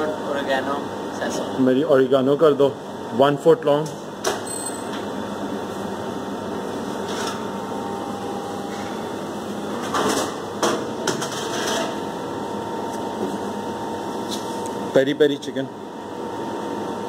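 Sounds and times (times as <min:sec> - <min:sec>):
kitchen background hum: 0:00.0 - 0:17.0.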